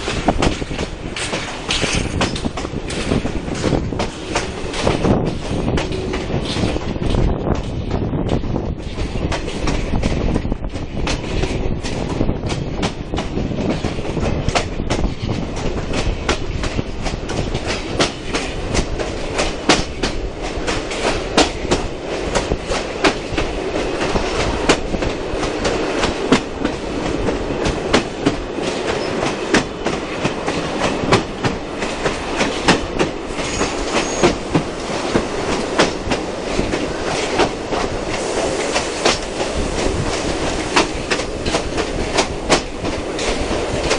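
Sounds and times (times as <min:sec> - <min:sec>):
train rumble: 0:00.0 - 0:43.9
train wheels clicking over rail joints: 0:00.0 - 0:43.9.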